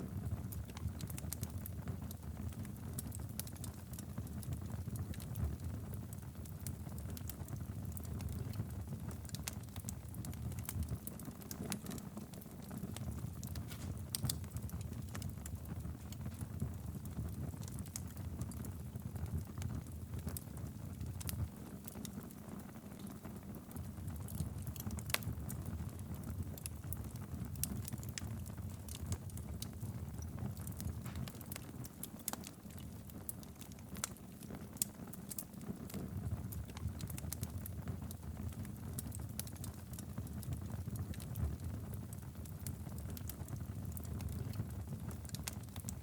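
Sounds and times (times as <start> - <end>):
fire crackling and popping: 0.0 - 46.0
fire rumbling: 4.1 - 46.0.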